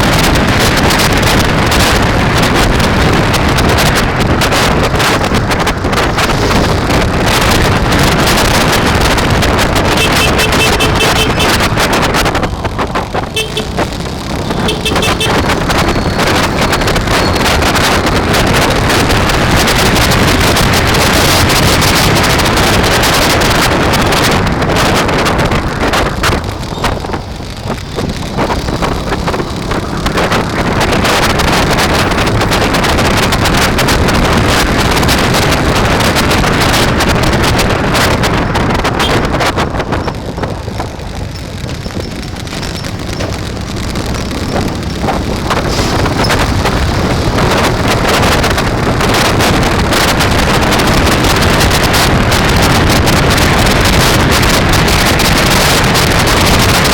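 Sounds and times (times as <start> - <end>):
wind roaring on microphone: 0.0 - 56.9.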